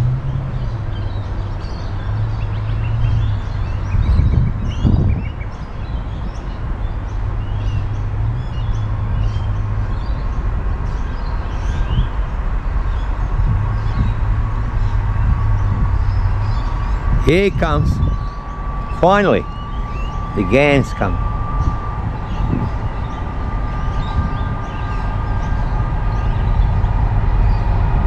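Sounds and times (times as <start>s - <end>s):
diesel locomotive drone: 0.0s - 28.0s
birds chirping: 0.6s - 28.0s.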